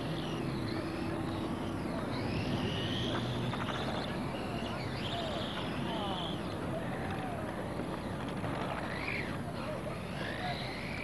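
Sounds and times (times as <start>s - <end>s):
small motors whining: 0.0s - 11.0s.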